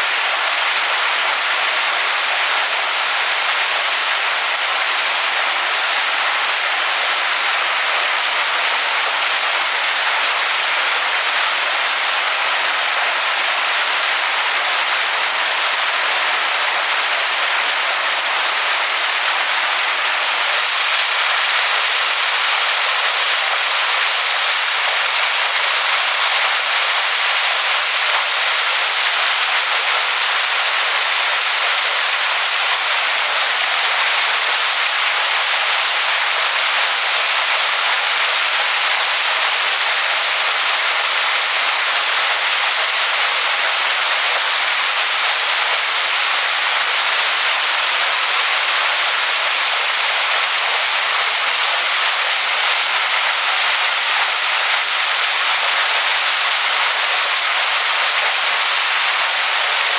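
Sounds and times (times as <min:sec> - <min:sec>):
waterfall splashing onto rocks: 0:00.0 - 0:59.9.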